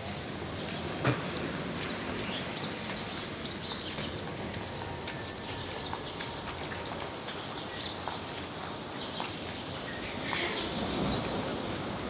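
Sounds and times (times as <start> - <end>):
street ambience hiss: 0.0 - 12.0.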